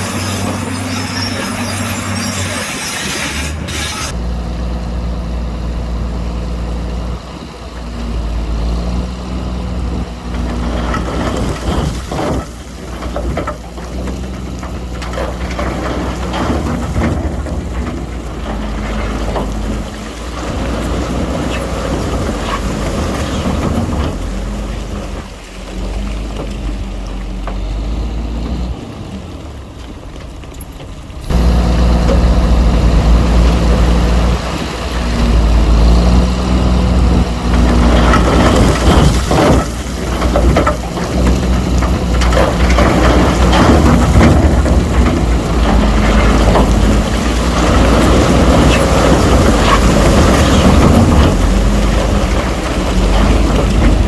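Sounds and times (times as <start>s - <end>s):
heavy diesel machinery engine: 0.0s - 54.0s.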